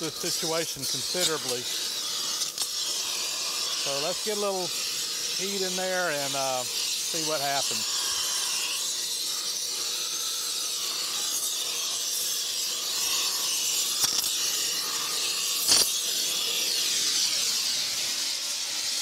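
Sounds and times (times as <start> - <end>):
gas torch flame hissing: 0.0 - 19.0.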